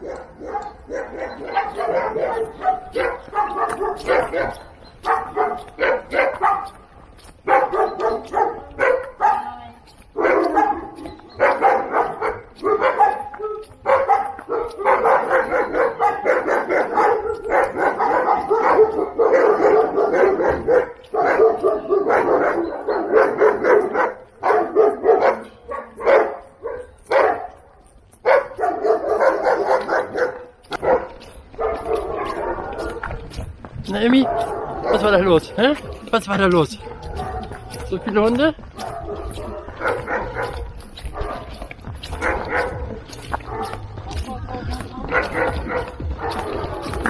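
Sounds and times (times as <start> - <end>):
dogs barking and yelping: 0.0 - 47.0.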